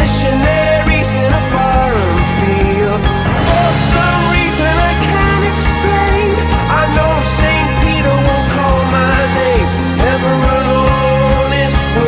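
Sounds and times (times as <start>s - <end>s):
song playing: 0.0s - 12.0s.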